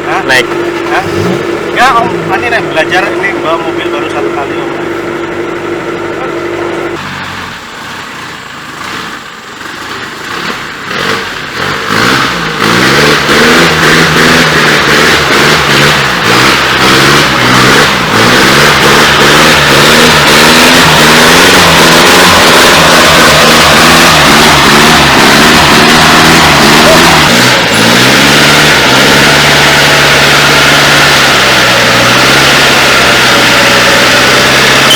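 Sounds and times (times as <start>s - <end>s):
car engine revving hard: 0.0s - 34.9s.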